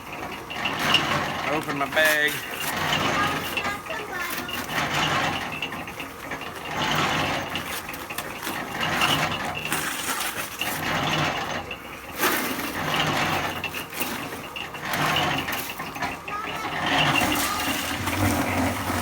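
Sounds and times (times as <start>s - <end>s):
concrete mix tumbling in mixer drum: 0.0s - 19.0s.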